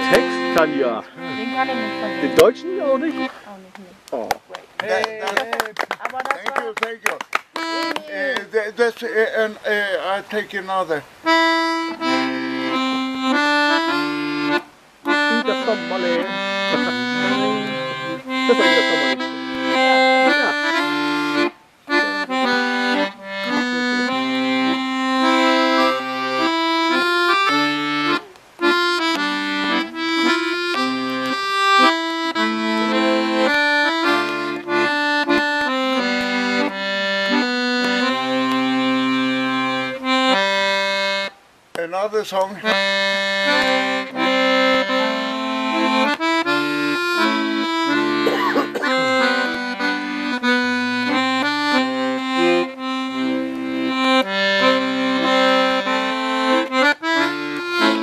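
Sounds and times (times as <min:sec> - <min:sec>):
accordion melody: 0:00.0 - 0:58.0.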